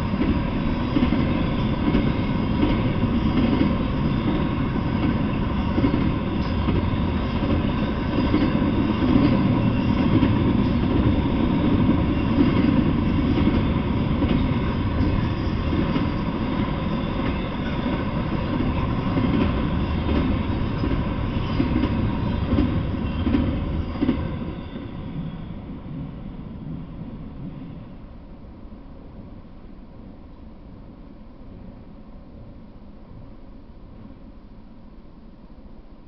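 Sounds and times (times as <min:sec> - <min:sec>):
freight train wheels on rails: 0:00.0 - 0:30.5.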